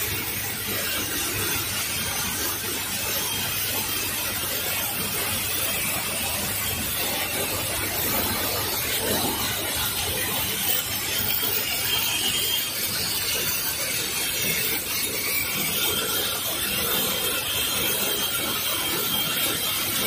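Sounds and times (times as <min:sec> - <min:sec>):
machines clattering with rapid clicks: 0:00.0 - 0:20.0.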